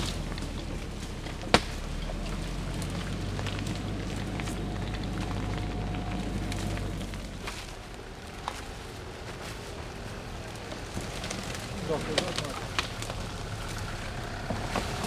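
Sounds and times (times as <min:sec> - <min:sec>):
footsteps crackling on leaves: 0:00.0 - 0:15.0
vehicle engine idling: 0:00.0 - 0:15.0.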